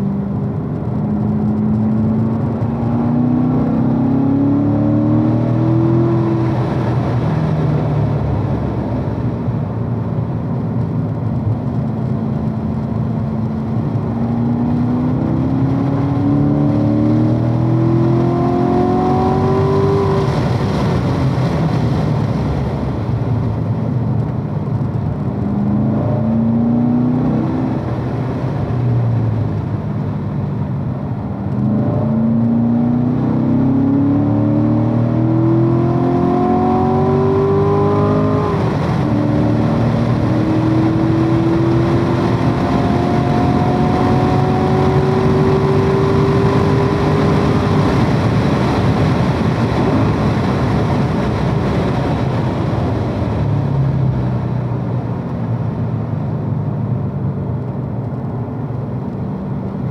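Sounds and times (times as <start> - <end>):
car engine revving in cabin: 0.0 - 59.9.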